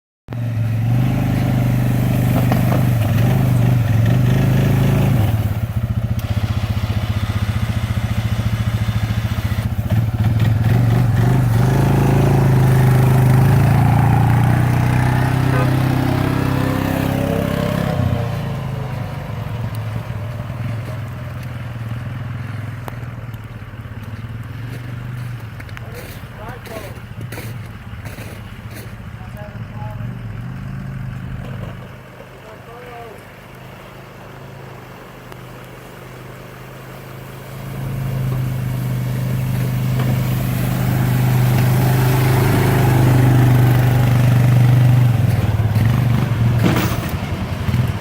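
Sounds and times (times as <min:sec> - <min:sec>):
atv engine under load: 0:00.3 - 0:48.0
plow blade scraping snow: 0:00.3 - 0:48.0.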